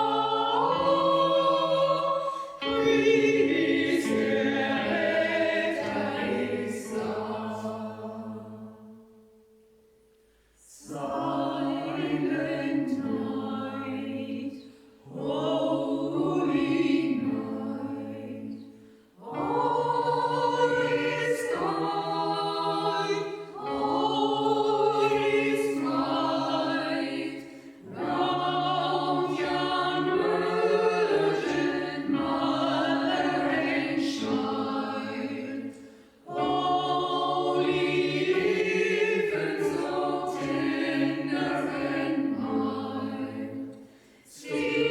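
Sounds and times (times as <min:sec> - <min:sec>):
choir singing: 0:00.0 - 0:09.6, 0:10.6 - 0:44.9.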